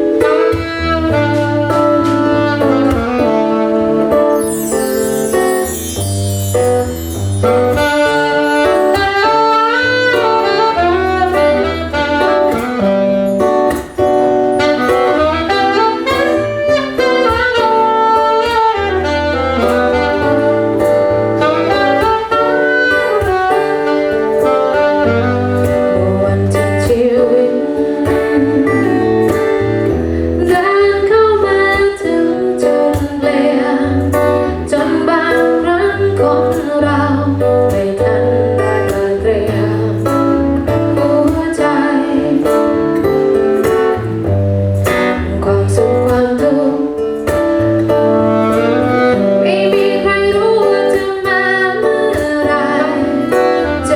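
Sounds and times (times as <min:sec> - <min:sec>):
drums: 0:00.0 - 0:09.5, 0:10.1 - 0:53.8
saxophone melody: 0:00.0 - 0:53.9.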